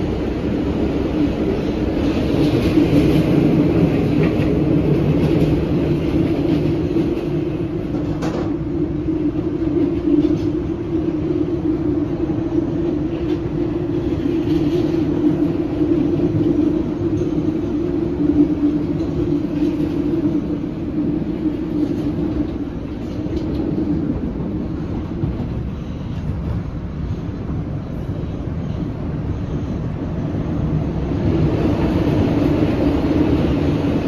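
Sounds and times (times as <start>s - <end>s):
railcar running rumble: 0.0s - 34.0s.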